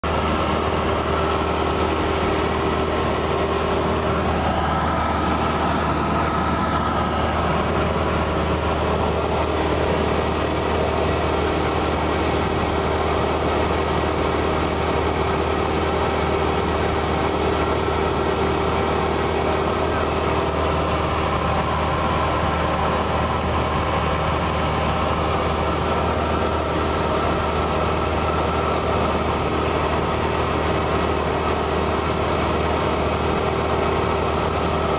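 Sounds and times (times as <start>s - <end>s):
airplane engine and propeller droning: 0.0s - 34.9s.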